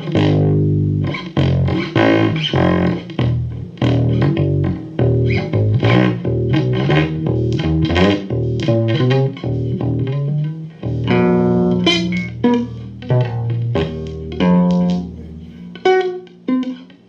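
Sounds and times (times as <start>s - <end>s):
bass line: 0.0s - 15.8s
plucked guitar music: 0.0s - 17.0s.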